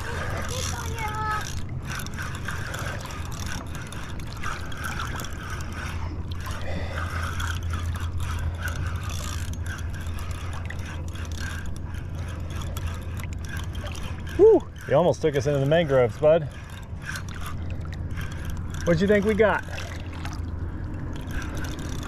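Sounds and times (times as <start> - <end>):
fishing reel cranking: 0.0 - 22.0
water lapping: 0.0 - 22.0.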